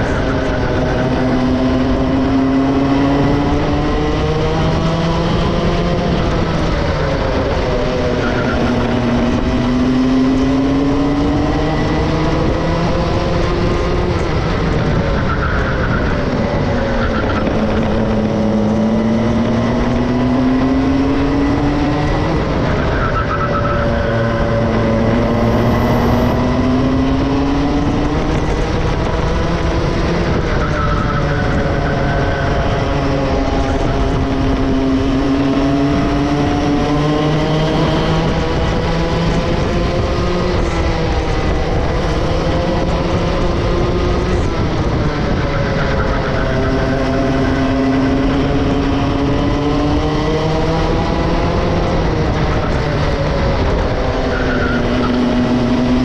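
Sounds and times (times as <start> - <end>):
racing kart engine revving: 0.0 - 56.0.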